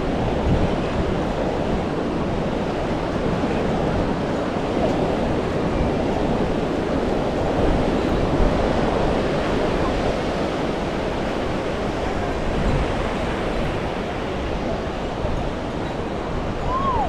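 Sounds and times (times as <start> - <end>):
surf washing onto a beach: 0.0 - 17.0.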